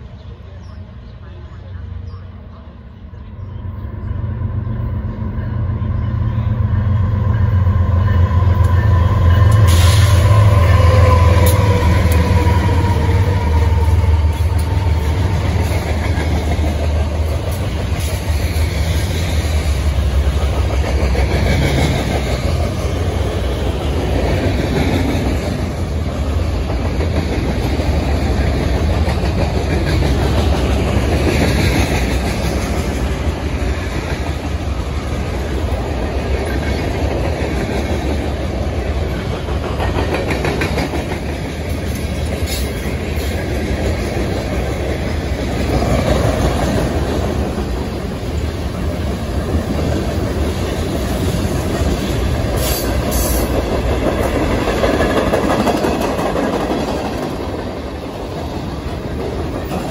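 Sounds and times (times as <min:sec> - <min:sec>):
diesel locomotive engine drone: 0:00.0 - 0:59.9
train wheels rumbling on rails: 0:00.0 - 0:59.9.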